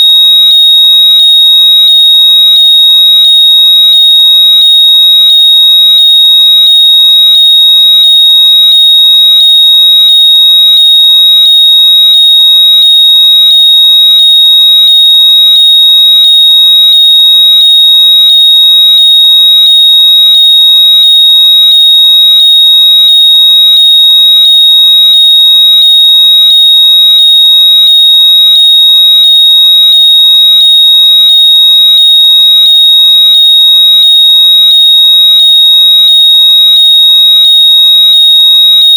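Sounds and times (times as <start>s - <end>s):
falling electronic chirps: 0.0s - 32.0s
high-pitched electronic tone: 0.0s - 38.9s.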